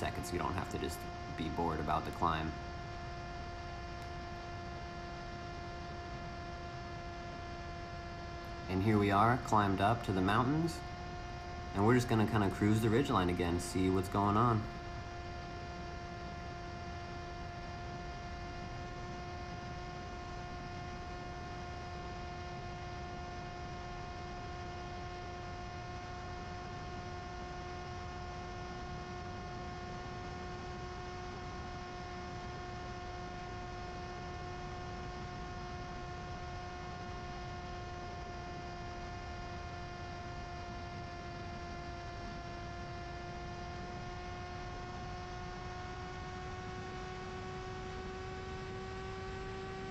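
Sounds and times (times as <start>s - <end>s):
electric motor and propeller hum: 0.0s - 49.9s.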